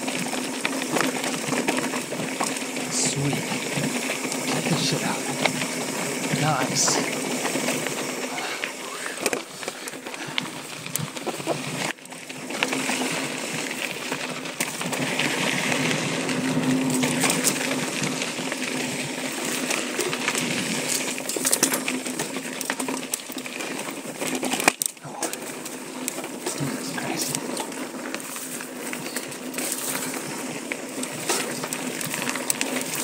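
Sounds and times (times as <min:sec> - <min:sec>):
bike chain and frame rattling: 0:00.0 - 0:33.0
bike tyres on loose gravel: 0:00.0 - 0:33.0.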